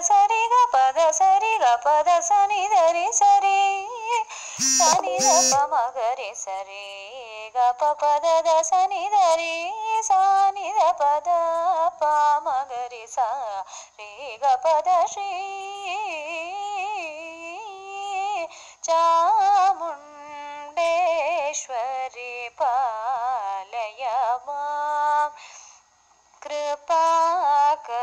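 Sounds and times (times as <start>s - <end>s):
woman singing devotional song: 0.0s - 25.8s, 26.4s - 28.0s.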